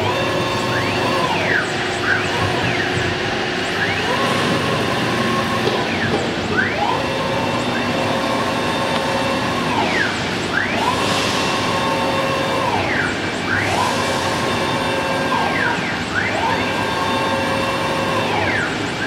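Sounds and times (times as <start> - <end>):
drive motors whining: 0.0 - 19.0
spindle high whine: 0.0 - 19.0.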